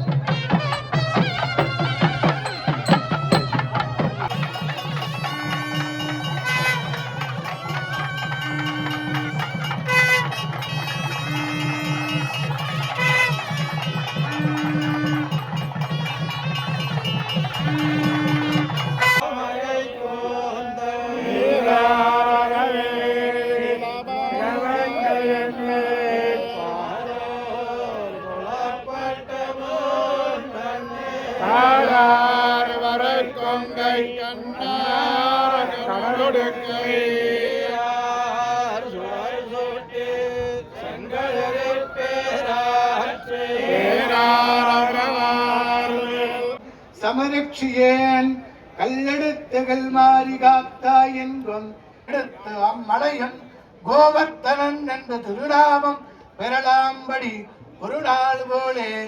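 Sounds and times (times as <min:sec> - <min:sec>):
devotional chanting: 0:00.0 - 0:59.0.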